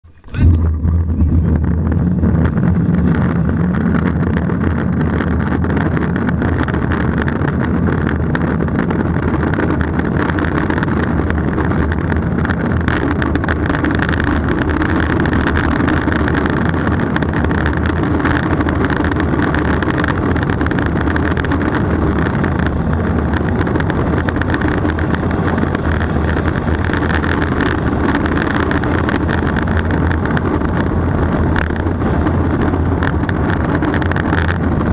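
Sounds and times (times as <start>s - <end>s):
wheels rolling on asphalt: 0.0s - 34.9s
wind buffeting microphone: 0.0s - 34.9s.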